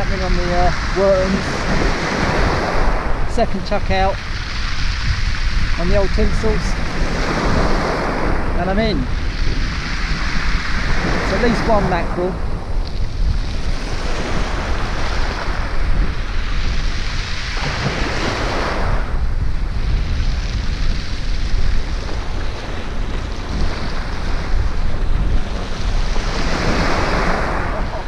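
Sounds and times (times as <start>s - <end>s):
waves breaking on beach: 0.0s - 28.0s
wind buffeting microphone: 0.0s - 28.0s.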